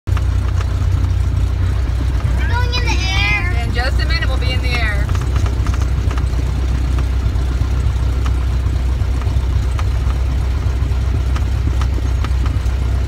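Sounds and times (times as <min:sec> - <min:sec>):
light aircraft engine droning: 0:00.1 - 0:13.0.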